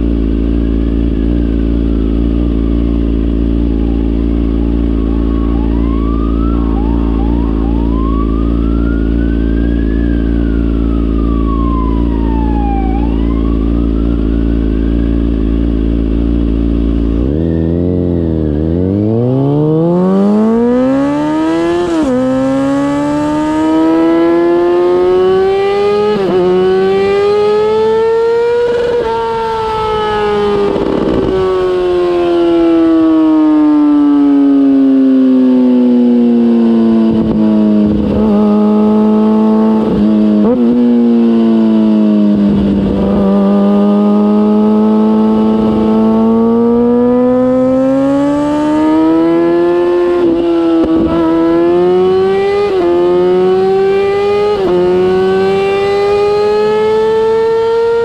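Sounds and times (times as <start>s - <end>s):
motorcycle engine revving: 0.0s - 58.0s
siren wailing: 0.0s - 58.0s.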